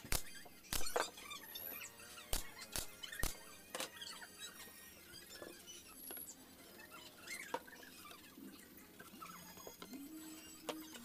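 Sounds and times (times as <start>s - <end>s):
high chirping squeaks: 0.2s - 11.0s.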